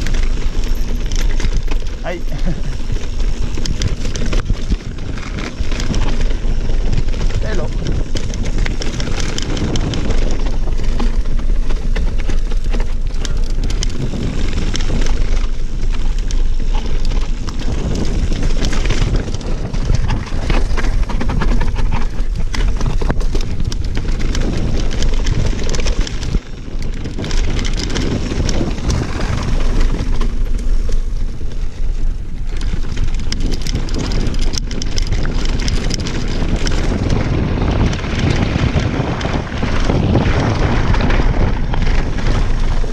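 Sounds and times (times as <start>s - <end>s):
bike rattling over cobblestones: 0.0s - 42.9s
wind buffeting microphone: 0.0s - 42.9s.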